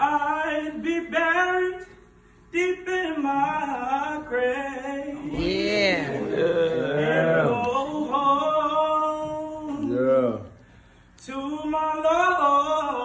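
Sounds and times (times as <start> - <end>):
young man singing unaccompanied: 0.0 - 9.9, 11.2 - 13.0.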